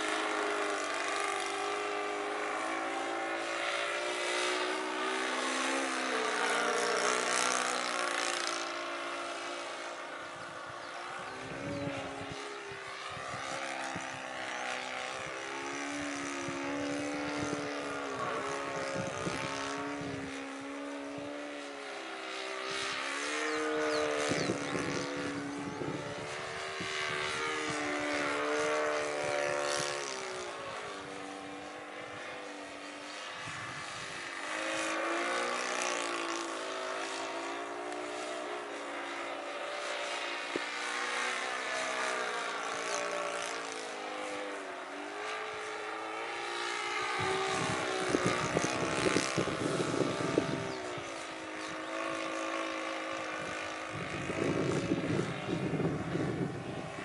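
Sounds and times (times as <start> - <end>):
model airplane engine running: 0.0 - 57.0.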